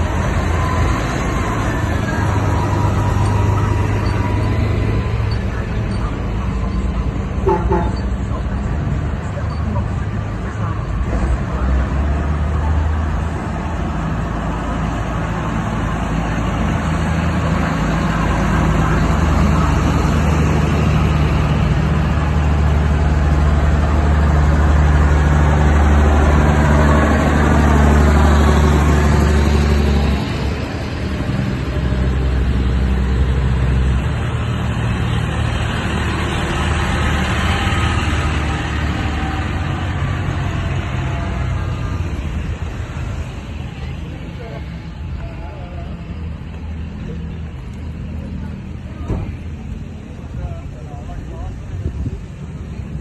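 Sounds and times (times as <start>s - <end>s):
tractor engine humming: 0.0s - 53.0s
vehicle passing by: 0.0s - 53.0s.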